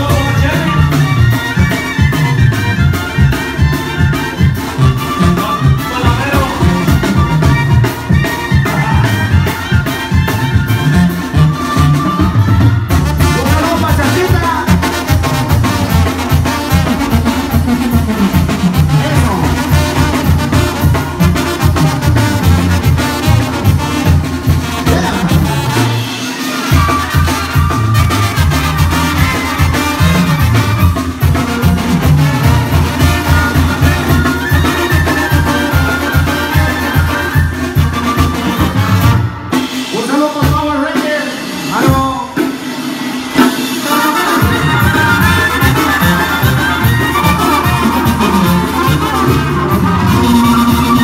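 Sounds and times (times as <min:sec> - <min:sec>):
clarinet: 0:00.0 - 0:13.8, 0:14.4 - 0:39.6, 0:43.8 - 0:51.0
trombones: 0:00.0 - 0:39.9, 0:43.3 - 0:51.0
trumpets: 0:00.0 - 0:41.2, 0:43.3 - 0:51.0
drums: 0:00.0 - 0:51.0.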